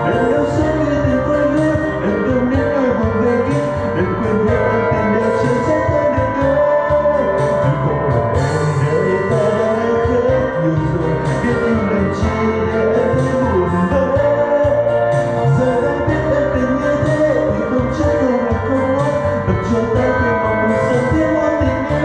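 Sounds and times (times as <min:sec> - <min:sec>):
karaoke backing track: 0:00.0 - 0:22.0
person singing: 0:00.0 - 0:22.0.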